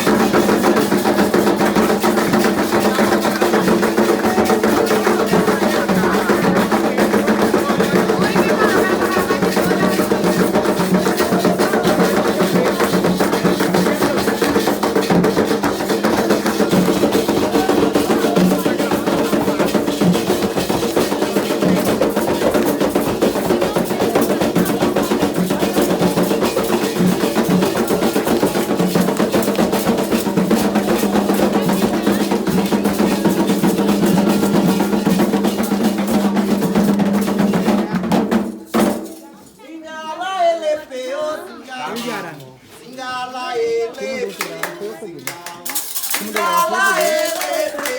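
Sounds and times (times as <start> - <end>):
hand drums playing fast beat: 0.0 - 39.2, 44.4 - 47.9.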